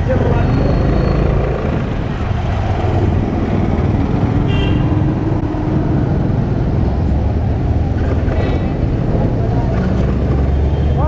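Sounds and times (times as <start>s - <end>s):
surrounding traffic: 0.0s - 11.0s
wind buffeting microphone: 0.0s - 11.0s.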